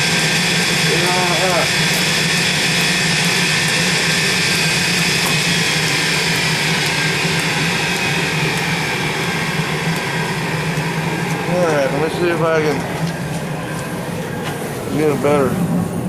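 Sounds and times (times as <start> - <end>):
forge rushing noise: 0.0 - 16.0
low hum: 0.0 - 16.0.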